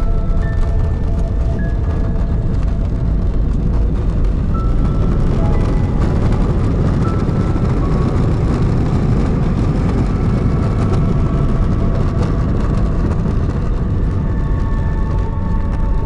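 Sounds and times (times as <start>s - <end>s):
airliner cabin rumble: 0.0s - 16.0s
faint whining tones: 0.0s - 16.0s.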